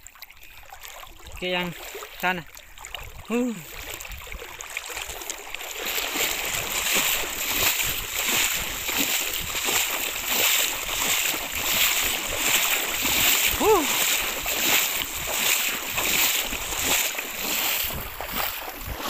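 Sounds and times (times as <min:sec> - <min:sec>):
wading through shallow water: 0:00.0 - 0:19.0.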